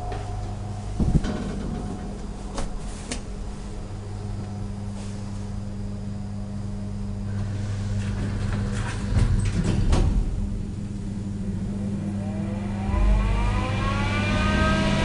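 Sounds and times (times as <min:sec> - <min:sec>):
electrical machinery hum: 0:00.0 - 0:15.0.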